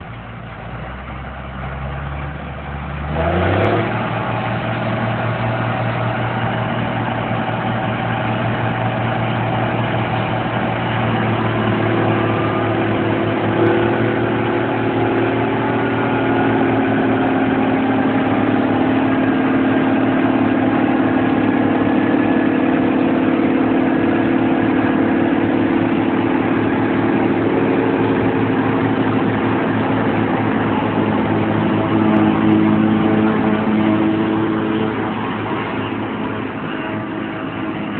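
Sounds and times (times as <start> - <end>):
tractor diesel engine revving: 0.0 - 37.9
steady higher tones: 3.9 - 37.9.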